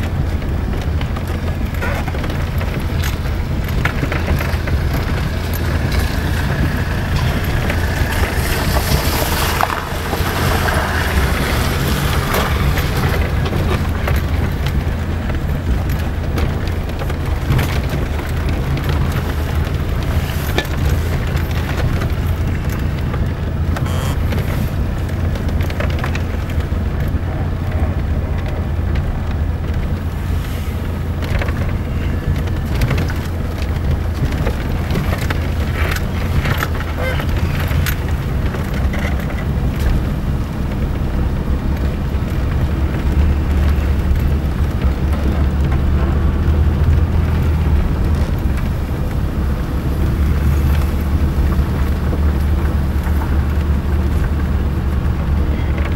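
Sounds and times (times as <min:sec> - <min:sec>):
car engine and tyres rumbling: 0:00.0 - 0:55.9
knocks and rattles in car: 0:00.0 - 0:55.9.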